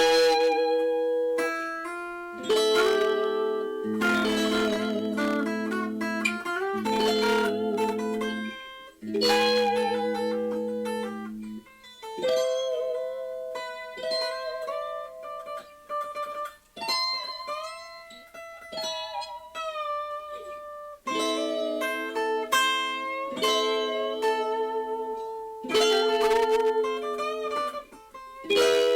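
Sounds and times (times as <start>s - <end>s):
solo guitar playing blues: 0.0s - 28.9s.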